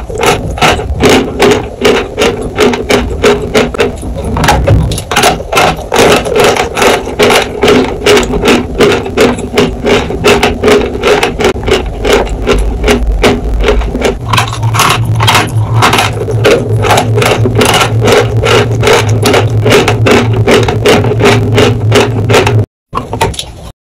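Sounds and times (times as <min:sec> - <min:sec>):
person chewing chalk: 0:00.0 - 0:22.7
low steady hum: 0:00.0 - 0:23.7.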